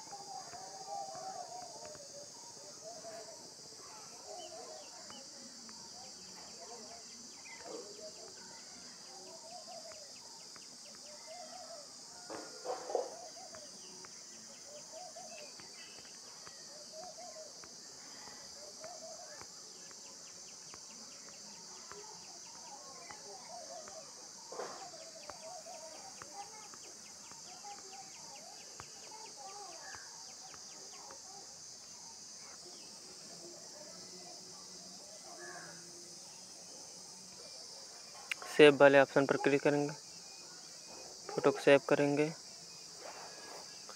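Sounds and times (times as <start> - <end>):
steady high hiss: 0.0 - 43.9.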